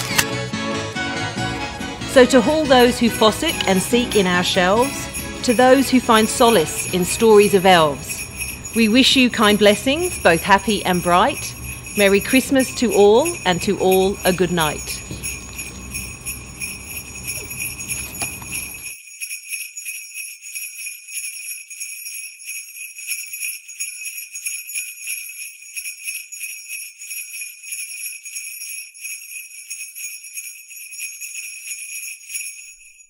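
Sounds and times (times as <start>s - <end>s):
jingle bells shaken: 1.8s - 33.0s.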